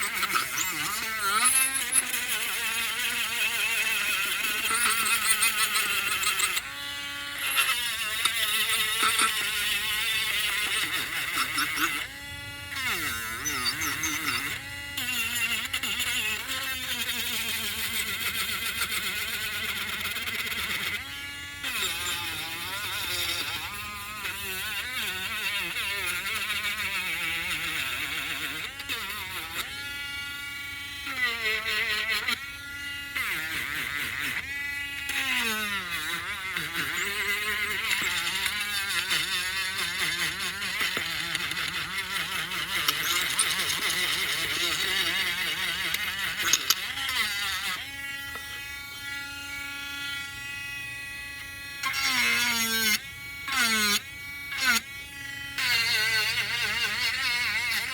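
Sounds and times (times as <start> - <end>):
power sander motor running: 0.0 - 28.6, 31.8 - 57.9.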